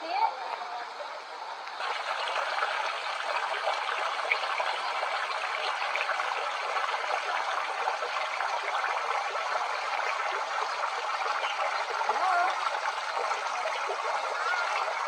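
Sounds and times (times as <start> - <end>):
water trickling into a pond: 0.9 - 15.0.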